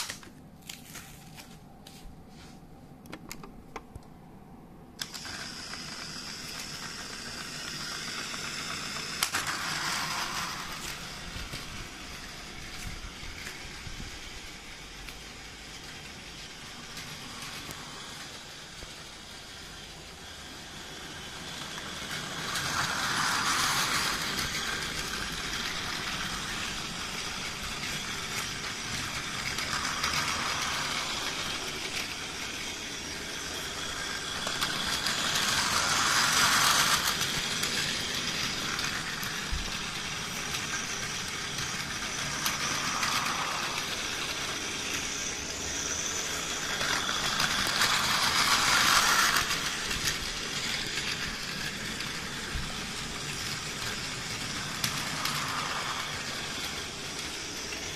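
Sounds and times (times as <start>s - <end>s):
toy train motor whirring: 0.0s - 1.1s, 5.0s - 57.9s
toy train wheels on rails: 0.0s - 1.6s, 5.0s - 57.9s.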